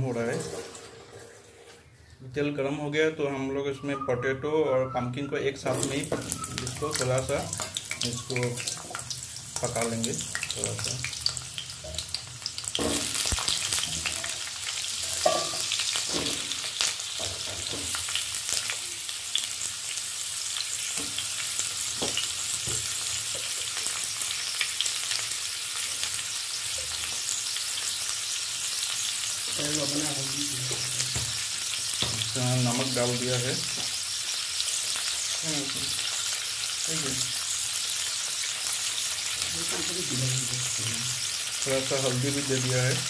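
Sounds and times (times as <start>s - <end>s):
vegetables frying in oil: 5.7s - 43.0s.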